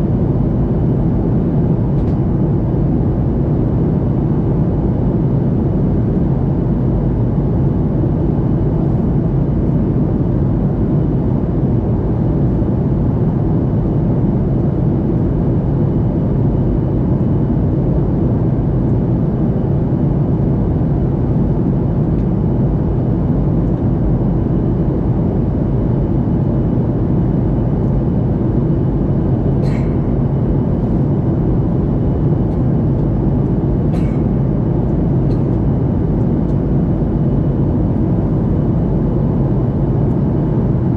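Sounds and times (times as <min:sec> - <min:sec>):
airliner engines and airflow rush: 0:00.0 - 0:40.9.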